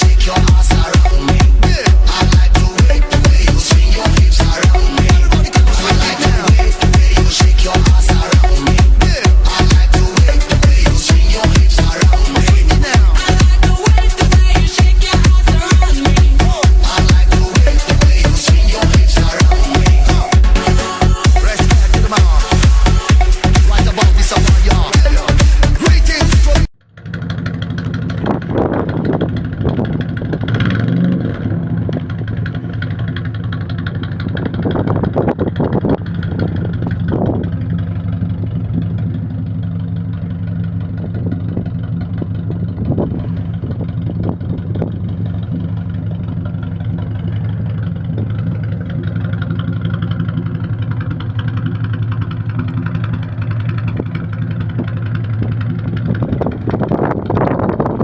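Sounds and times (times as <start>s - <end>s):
petrol engine running: 0.0s - 58.0s.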